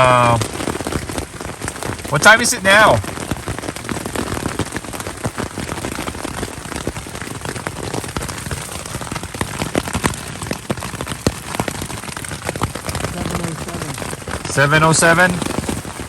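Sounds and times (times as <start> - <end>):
heavy rain on tent fabric: 0.0 - 16.0.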